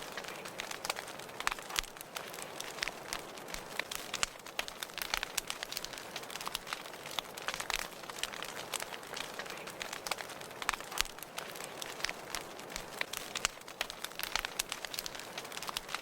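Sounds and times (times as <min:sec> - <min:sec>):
low hiss of burning: 0:00.0 - 0:16.0
sharp pops of fire: 0:00.0 - 0:16.0
wood fire crackling: 0:00.0 - 0:16.0.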